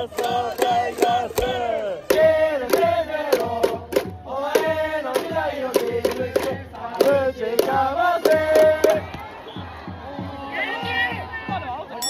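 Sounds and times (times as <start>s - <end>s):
stadium crowd chanting: 0.0s - 11.4s.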